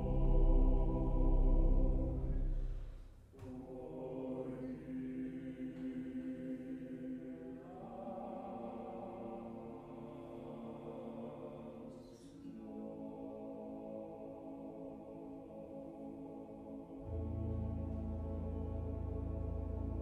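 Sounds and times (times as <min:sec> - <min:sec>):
choir singing sustained chords: 0:00.0 - 0:20.0.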